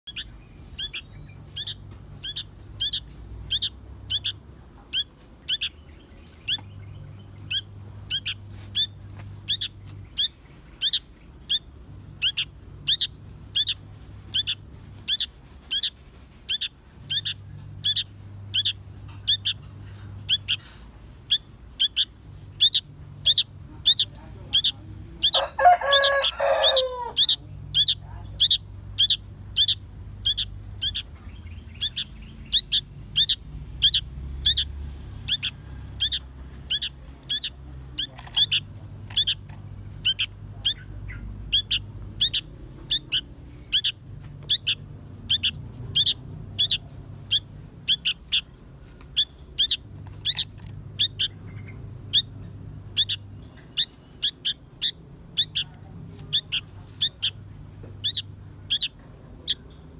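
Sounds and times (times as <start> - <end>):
young bird begging chirps: 0.0 - 57.4, 58.0 - 59.9
harsh bird chattering: 0.0 - 59.9.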